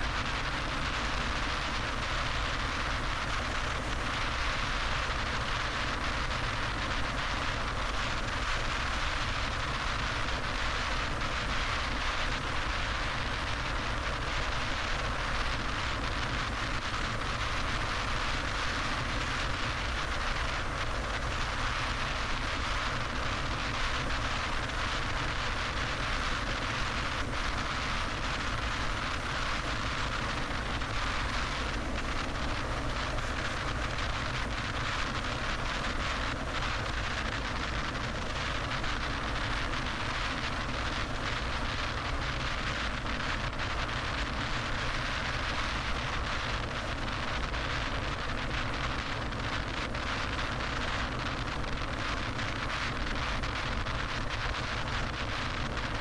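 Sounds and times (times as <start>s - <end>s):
car road noise at speed: 0.0s - 56.0s.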